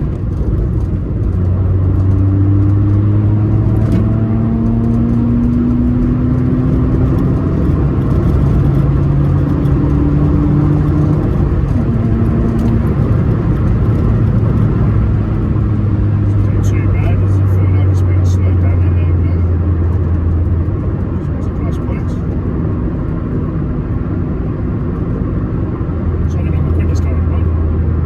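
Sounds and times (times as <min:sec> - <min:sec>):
car engine running: 0:00.0 - 0:28.0
tyre and road noise: 0:00.0 - 0:28.0.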